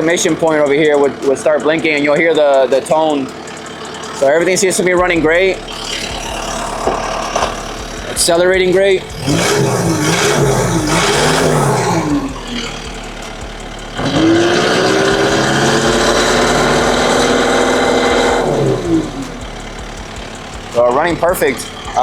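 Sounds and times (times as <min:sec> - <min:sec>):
diesel engine revving and idling: 0:00.0 - 0:22.0.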